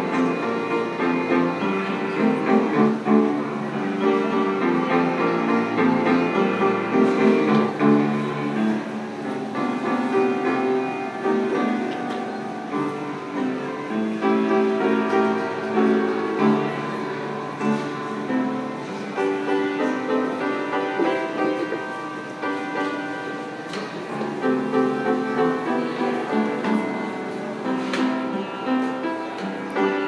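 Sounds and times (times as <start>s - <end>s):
upright piano playing: 0.0s - 30.0s.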